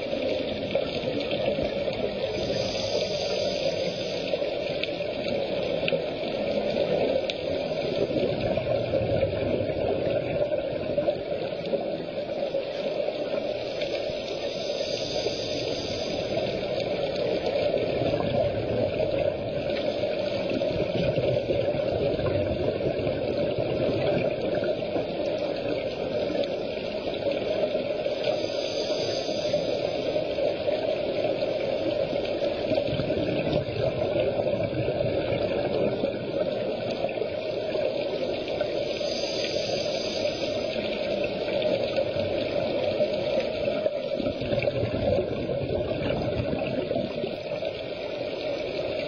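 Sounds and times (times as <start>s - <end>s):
underwater regulator bubbles: 0.0s - 49.0s.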